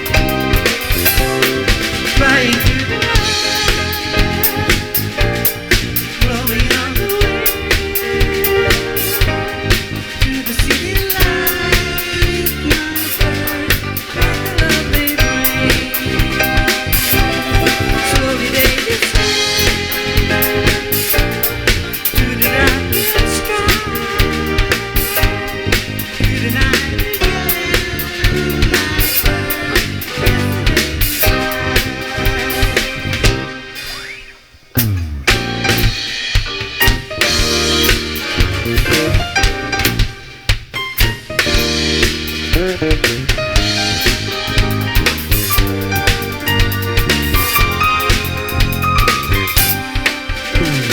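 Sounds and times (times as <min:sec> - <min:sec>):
snare and bass drum beat: 0:00.0 - 0:33.7, 0:34.8 - 0:50.9
band playing a song: 0:00.0 - 0:34.2, 0:34.8 - 0:50.9.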